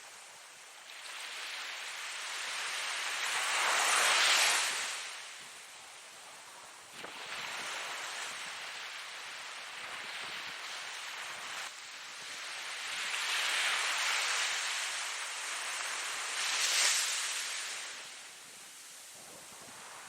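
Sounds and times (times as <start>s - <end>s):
ocean surf washing in and out: 0.0s - 20.0s.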